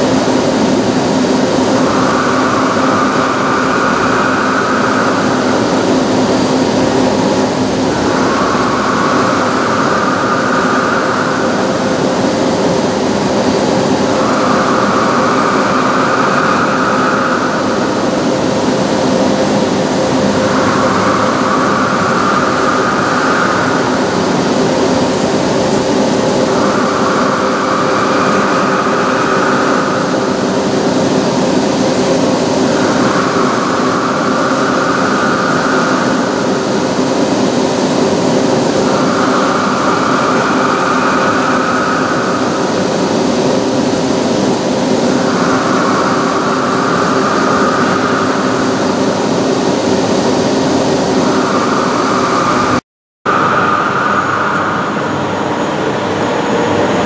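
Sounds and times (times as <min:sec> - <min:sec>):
high machine whine: 0:00.0 - 0:57.0
lathe machine hum: 0:00.0 - 0:57.0.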